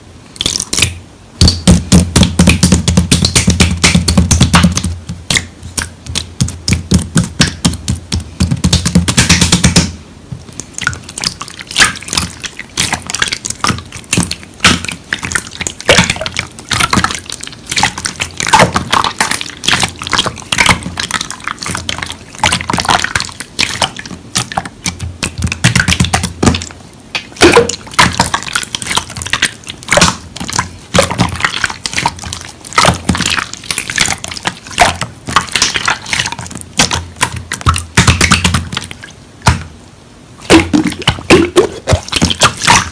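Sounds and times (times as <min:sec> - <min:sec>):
slime squished by hand: 0:00.4 - 0:39.7.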